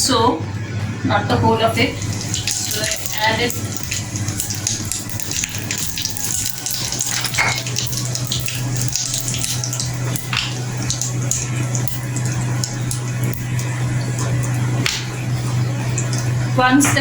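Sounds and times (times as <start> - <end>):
low hum: 0.0 - 17.0
seeds sizzling in hot oil: 1.9 - 16.6.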